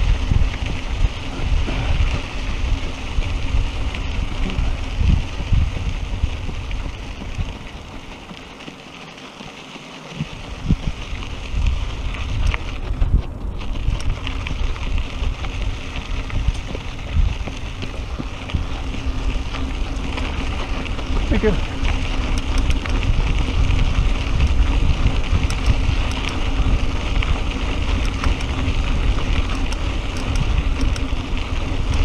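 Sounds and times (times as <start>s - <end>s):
wind rumble on microphone: 0.0s - 8.7s, 10.0s - 32.0s
bicycle tyres rolling on gravel: 0.0s - 32.0s.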